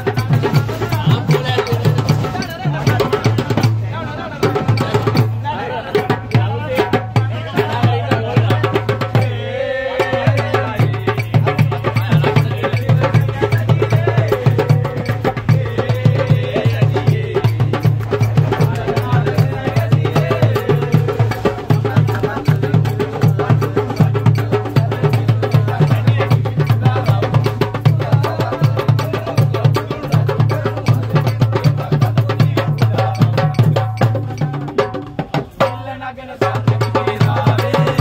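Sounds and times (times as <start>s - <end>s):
fast hand drumming: 0.0s - 38.0s
voices singing: 0.0s - 38.0s.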